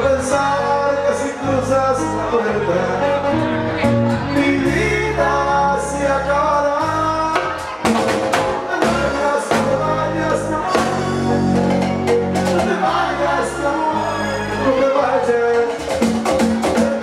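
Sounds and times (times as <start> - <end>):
person singing: 0.0 - 7.9, 8.5 - 17.0
latin song with bass and percussion: 0.0 - 17.0.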